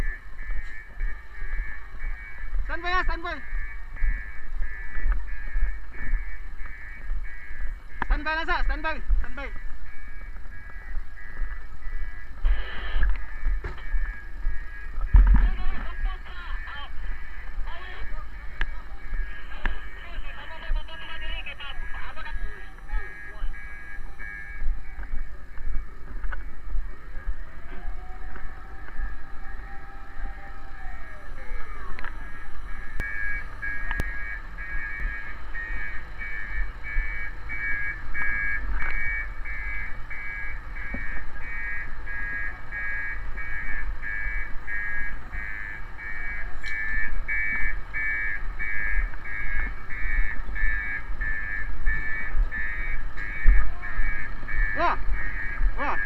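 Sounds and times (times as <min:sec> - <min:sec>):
low rumble of vehicles: 0:00.0 - 0:56.0
rising and falling siren: 0:00.0 - 0:56.0
two-pitch electronic siren: 0:00.0 - 0:56.0.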